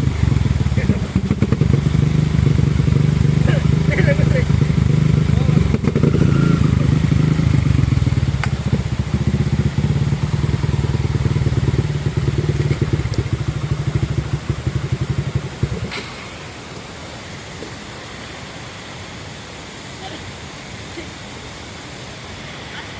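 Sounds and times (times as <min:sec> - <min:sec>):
dirt bike engine running: 0:00.0 - 0:19.6
steady hiss: 0:00.0 - 0:22.9.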